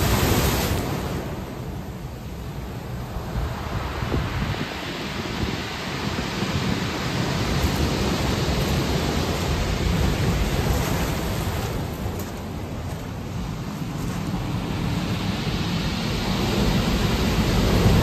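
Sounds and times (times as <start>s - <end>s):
rough sea surf breaking: 0.0s - 18.0s
strong wind: 0.0s - 18.0s.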